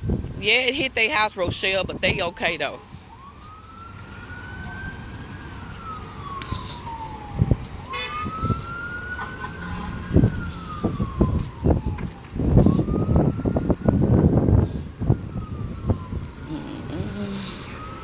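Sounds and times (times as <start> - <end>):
emergency siren wailing: 0.7 - 18.0.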